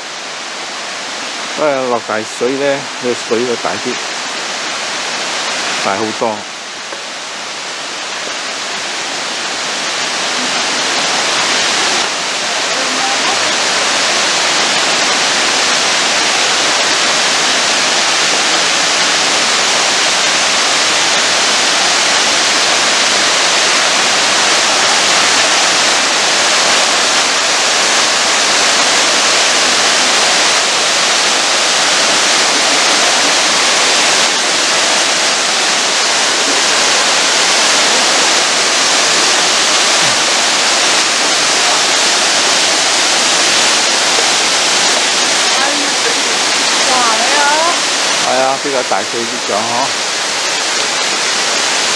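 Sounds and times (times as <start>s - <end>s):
small waterfall rushing: 0.0s - 51.9s.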